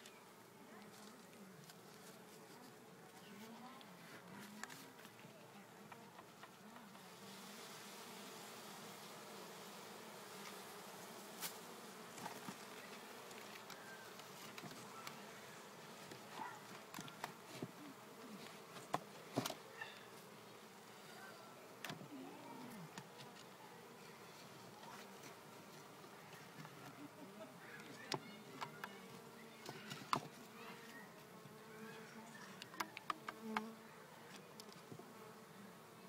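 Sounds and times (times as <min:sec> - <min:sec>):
bees buzzing: 0:04.9 - 0:36.0.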